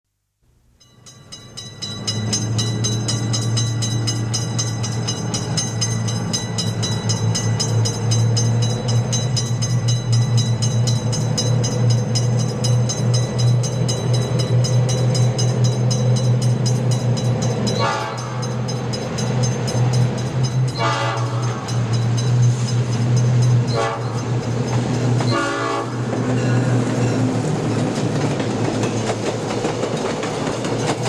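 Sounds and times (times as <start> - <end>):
level crossing bell ringing: 0.8 - 27.3.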